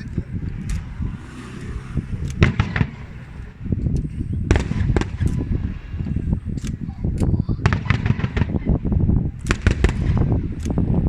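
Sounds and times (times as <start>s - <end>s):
fireworks booming: 0.0s - 11.0s
fireworks crackling rumble: 0.0s - 11.0s.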